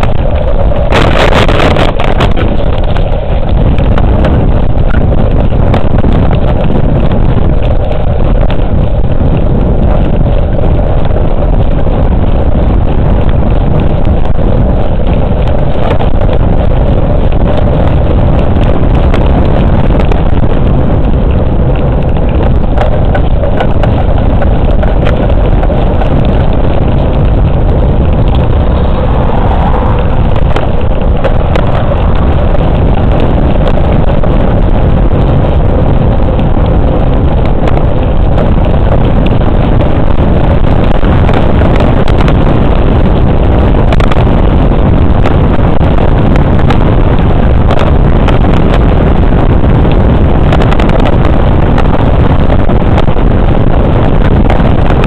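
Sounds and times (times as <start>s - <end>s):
bicycle tyres rolling on asphalt: 0.0s - 55.0s
wind rumble on microphone: 0.0s - 55.0s.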